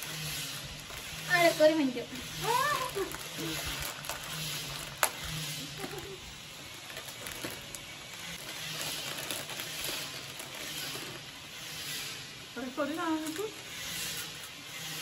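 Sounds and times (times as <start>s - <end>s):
crisp packets crinkling: 0.0s - 12.2s.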